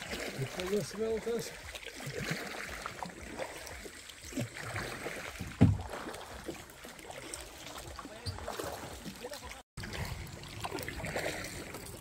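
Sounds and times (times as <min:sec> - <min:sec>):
river water splashing: 0:00.0 - 0:12.0.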